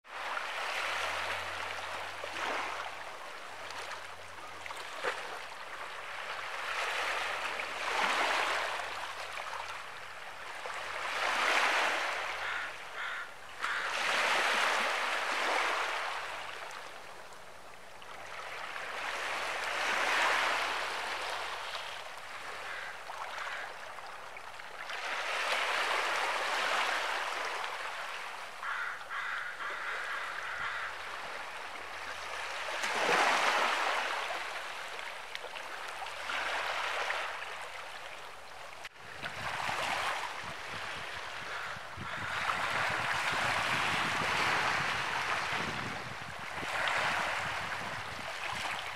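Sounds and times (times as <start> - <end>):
small waves washing ashore: 0.0 - 48.9.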